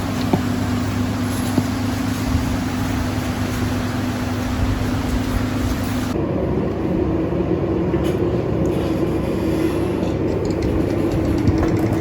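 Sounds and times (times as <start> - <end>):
engine-room machinery drone: 0.0 - 12.0.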